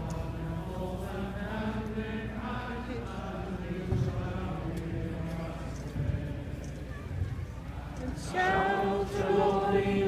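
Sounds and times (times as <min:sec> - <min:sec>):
large crowd singing: 0:00.0 - 0:10.0.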